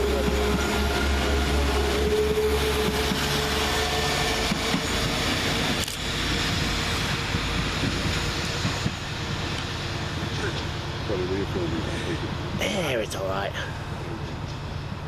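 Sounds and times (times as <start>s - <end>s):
diesel train engines running: 0.0s - 15.0s.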